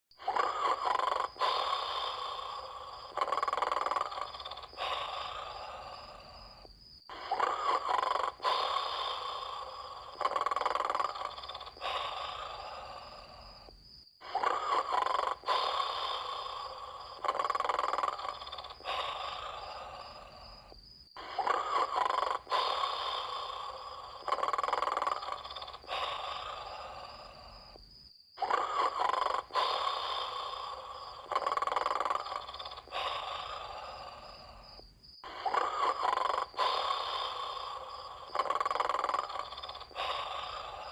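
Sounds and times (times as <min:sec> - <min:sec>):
person snoring: 0:00.1 - 0:40.9.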